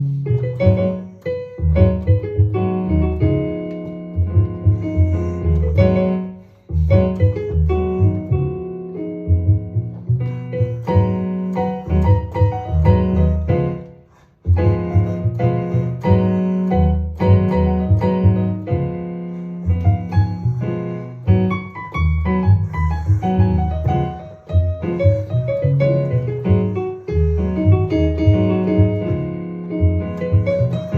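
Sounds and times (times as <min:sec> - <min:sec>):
blues piano playing: 0:00.0 - 0:30.9.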